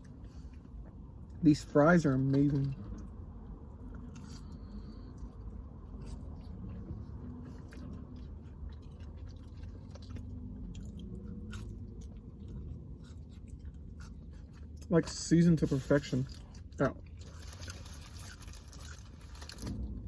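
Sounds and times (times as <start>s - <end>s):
person chewing food: 0.0s - 1.4s, 2.4s - 19.9s
steady low hum: 0.0s - 20.0s.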